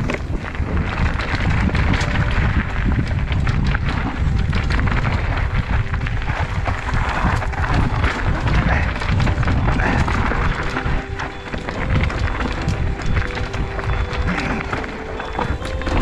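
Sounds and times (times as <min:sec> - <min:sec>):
bike rattling over rocks: 0:00.0 - 0:16.0
low rumble: 0:00.0 - 0:16.0
wind rush on microphone: 0:00.0 - 0:16.0.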